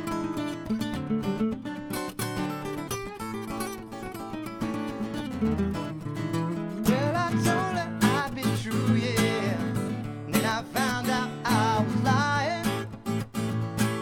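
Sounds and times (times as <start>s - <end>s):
acoustic guitar folk blues: 0.0s - 14.0s.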